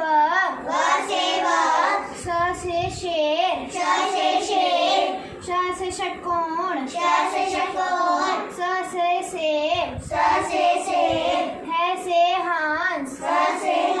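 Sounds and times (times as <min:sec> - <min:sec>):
girl chanting in a sing-song way: 0:00.0 - 0:14.0.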